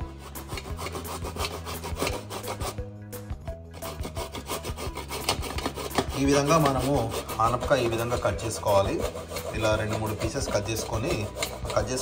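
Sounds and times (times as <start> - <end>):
knife sawing through gourd: 0.0 - 2.9, 3.6 - 12.0
background music: 0.0 - 12.0.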